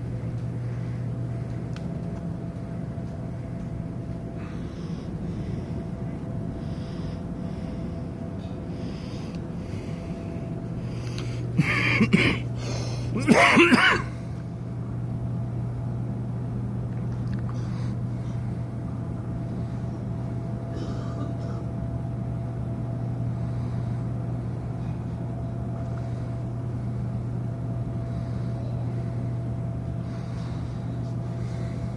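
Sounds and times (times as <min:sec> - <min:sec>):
ship machinery humming: 0:00.0 - 0:31.9.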